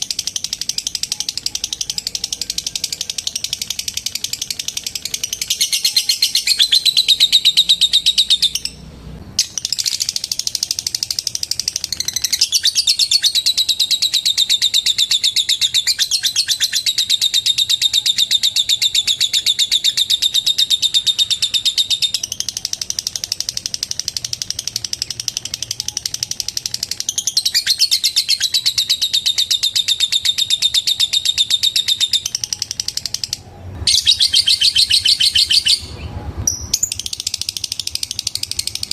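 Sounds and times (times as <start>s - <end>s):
lovebird chattering trill: 0.0s - 8.8s, 9.4s - 38.9s.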